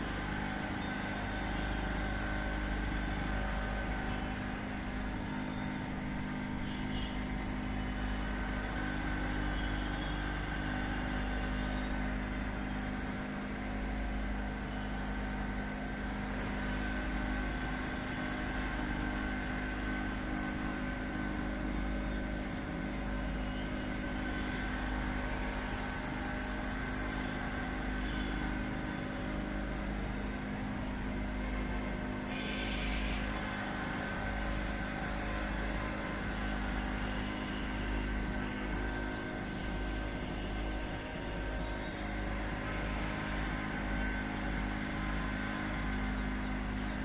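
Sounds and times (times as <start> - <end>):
mechanical hum: 0.0 - 47.0.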